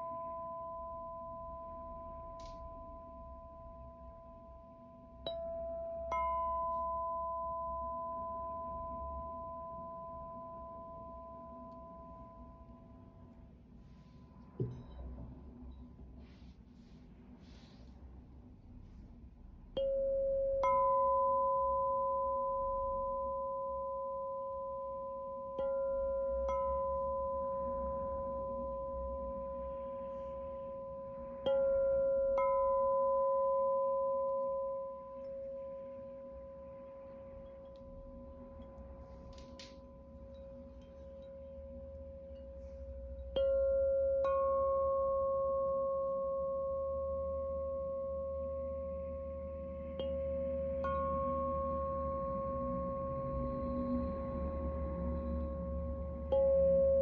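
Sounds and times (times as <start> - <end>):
singing bowls ringing: 0.0 - 16.1, 19.8 - 57.0.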